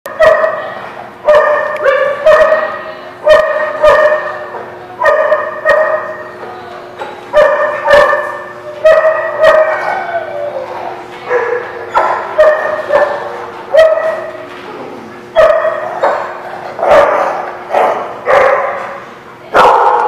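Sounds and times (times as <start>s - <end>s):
dog barking in a room: 0.1s - 6.4s, 7.3s - 20.0s.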